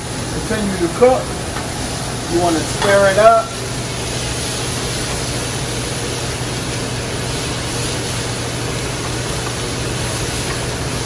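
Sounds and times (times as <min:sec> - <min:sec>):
gas range and ventilation rushing: 0:00.0 - 0:11.0
vegetables cooking in a pan: 0:00.0 - 0:11.0.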